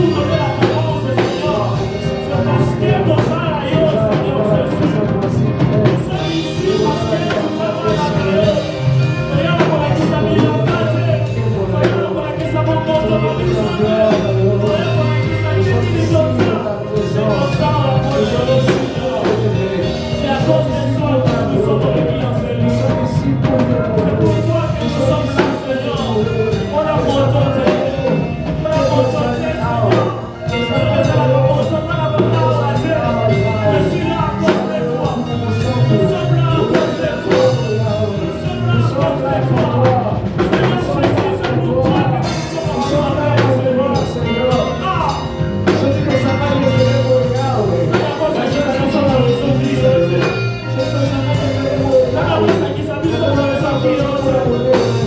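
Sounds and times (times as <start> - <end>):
bass line: 0.0 - 55.0
drums: 0.0 - 55.0
worship band playing: 0.0 - 55.0.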